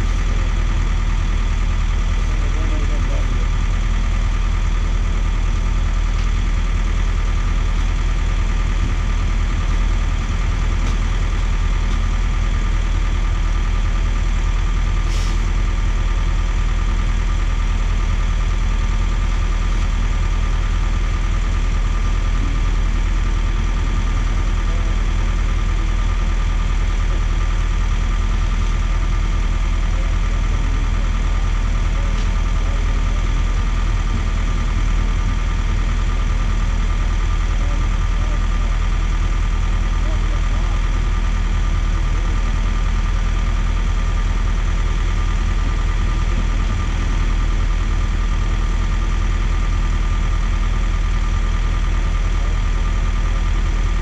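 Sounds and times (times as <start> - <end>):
truck engines humming: 0.0 - 54.0.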